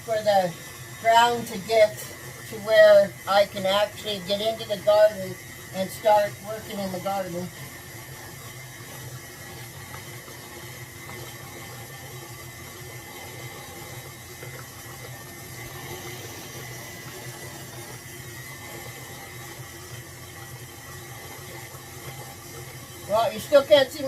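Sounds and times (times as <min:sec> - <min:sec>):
stand mixer motor hum: 0:00.0 - 0:24.0
watery churning: 0:00.0 - 0:24.0.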